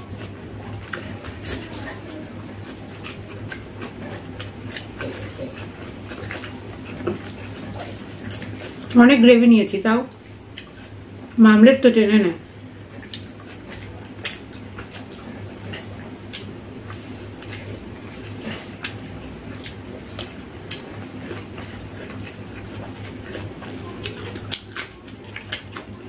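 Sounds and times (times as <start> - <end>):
fingers mixing wet food: 0.0 - 26.0
mouths chewing: 0.0 - 26.0
steady low hum: 0.0 - 26.0.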